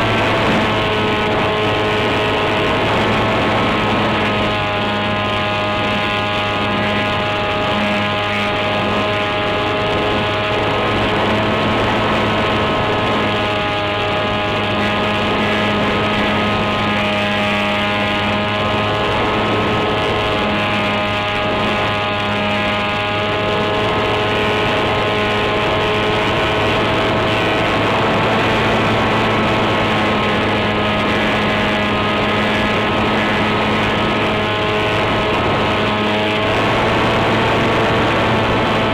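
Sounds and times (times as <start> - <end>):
electric motor whine: 0.0 - 38.9
propeller air rush: 0.0 - 38.9.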